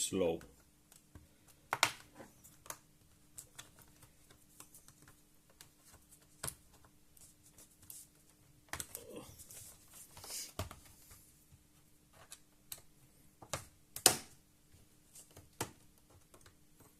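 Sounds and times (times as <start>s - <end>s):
hands clicking and tapping laptop: 0.3s - 16.9s.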